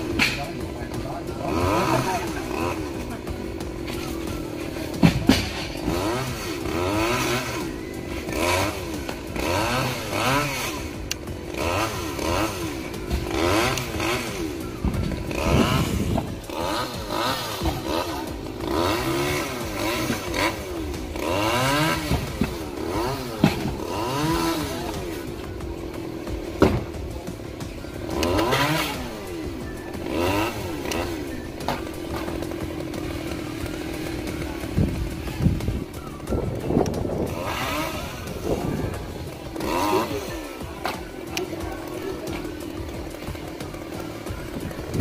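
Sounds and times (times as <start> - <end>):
chainsaw engine revving: 0.0 - 45.0.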